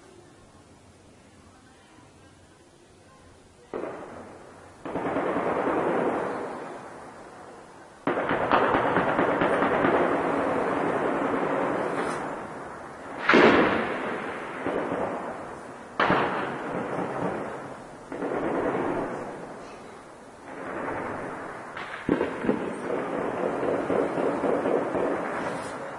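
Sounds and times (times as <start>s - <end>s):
gunshots with rolling echo: 3.7s - 25.9s.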